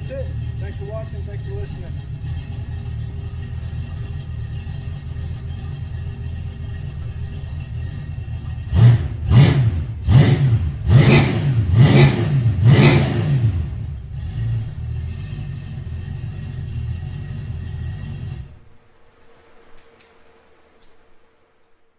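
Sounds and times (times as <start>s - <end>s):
engine revving and idling: 0.0s - 18.8s.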